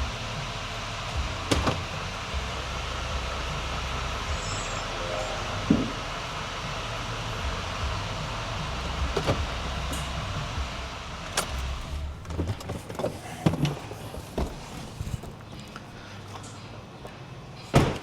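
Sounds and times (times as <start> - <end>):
diesel engine idling: 0.0 - 17.7.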